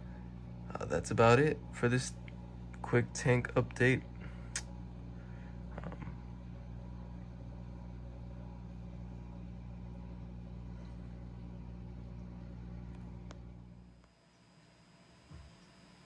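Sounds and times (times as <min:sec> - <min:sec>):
low electrical hum of pumps: 0:00.0 - 0:16.0.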